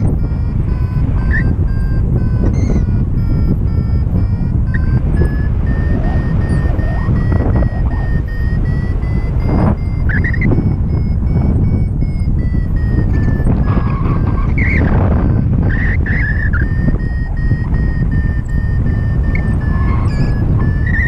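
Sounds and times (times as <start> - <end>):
variometer beeping: 0.0 - 21.0
wind rush on microphone: 0.0 - 21.0.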